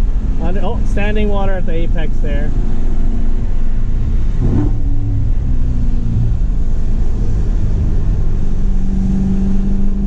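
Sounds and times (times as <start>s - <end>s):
car engine hum from cabin: 0.0s - 10.0s.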